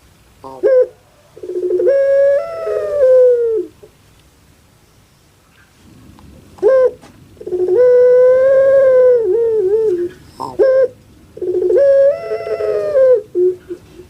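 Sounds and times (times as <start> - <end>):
dove calling: 0.3 - 4.0, 5.5 - 14.0.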